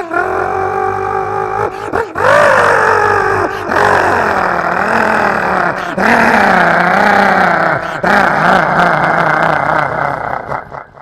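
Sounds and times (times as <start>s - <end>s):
man imitating engine with voice: 0.0s - 10.6s.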